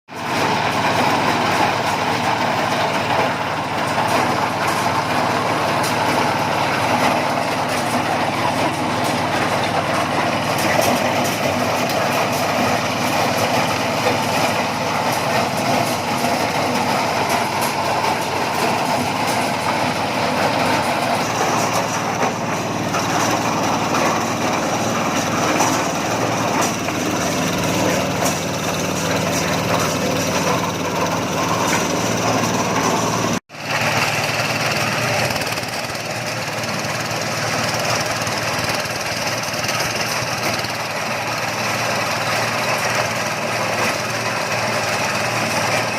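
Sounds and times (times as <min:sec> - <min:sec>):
corn sheller running: 0:00.1 - 0:45.9.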